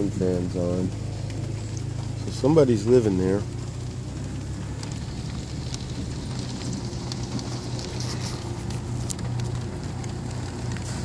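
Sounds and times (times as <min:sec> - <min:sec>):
light crackling ticks: 0:00.0 - 0:11.0
low engine and road hum: 0:00.0 - 0:11.0.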